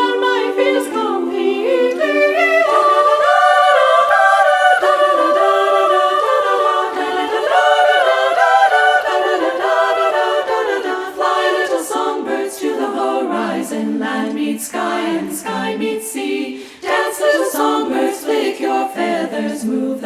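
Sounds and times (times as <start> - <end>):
choir singing a cappella: 0.0 - 20.0.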